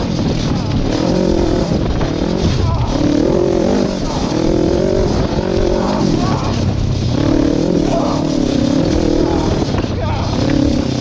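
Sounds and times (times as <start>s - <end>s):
go-kart engine under throttle: 0.0s - 11.0s.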